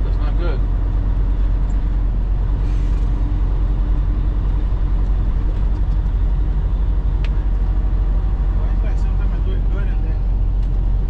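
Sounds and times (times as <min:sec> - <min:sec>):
road rumble: 0:00.0 - 0:11.0
truck diesel engine drone: 0:00.0 - 0:11.0.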